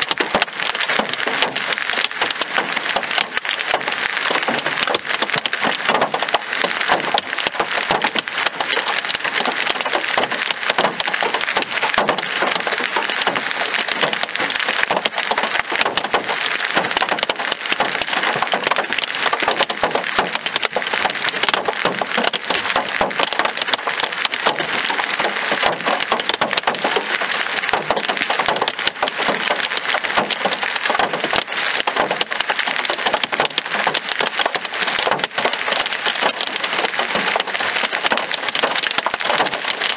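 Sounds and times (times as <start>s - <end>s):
hail pelting hard surfaces: 0.0s - 39.9s
rain: 0.0s - 39.9s.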